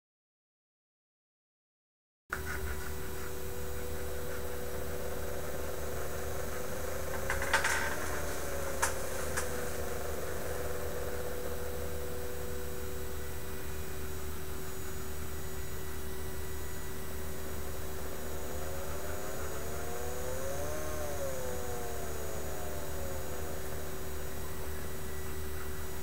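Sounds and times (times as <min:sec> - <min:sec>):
small electric motor humming: 0:02.3 - 0:26.0
motor whine rising and falling: 0:02.4 - 0:26.0.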